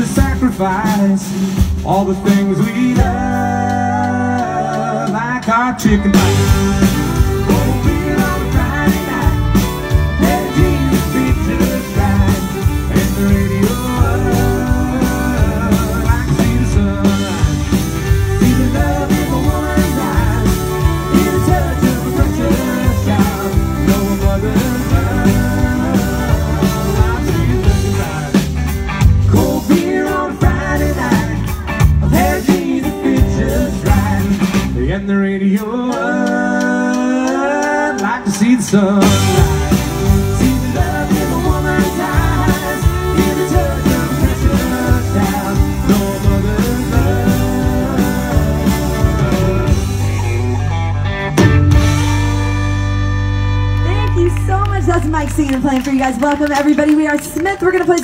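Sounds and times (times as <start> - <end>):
country band playing: 0.0 - 58.0.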